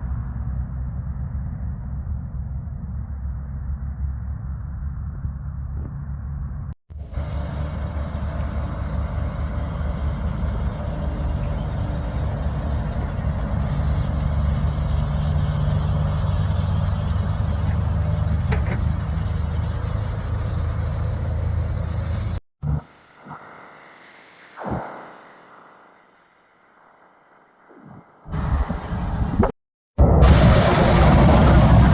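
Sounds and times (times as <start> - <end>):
truck diesel engines rumbling: 0.0 - 22.4, 28.3 - 31.9
tyre and road noise: 0.1 - 22.4, 27.9 - 31.9.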